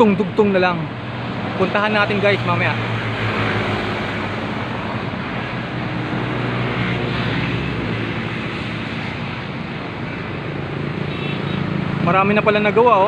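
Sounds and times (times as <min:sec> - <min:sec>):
road and wind noise: 0:00.0 - 0:13.0
vehicle engine hum: 0:00.0 - 0:13.0.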